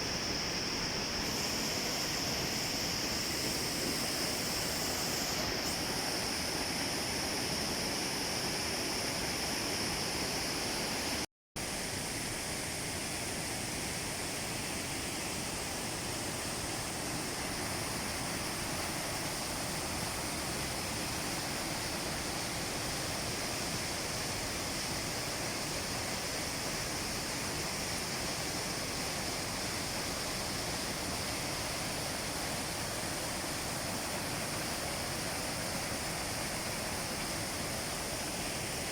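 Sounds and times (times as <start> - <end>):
rushing water roar: 0.0 - 38.9.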